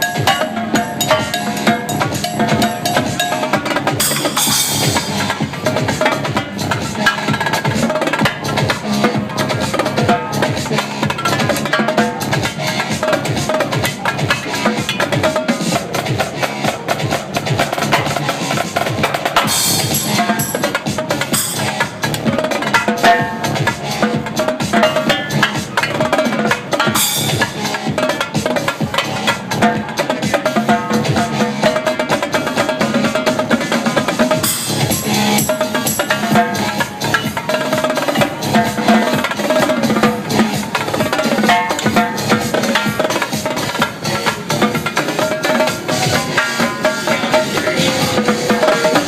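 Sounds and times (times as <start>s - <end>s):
dance music: 0.0s - 49.0s
fast drum strokes: 0.0s - 49.0s.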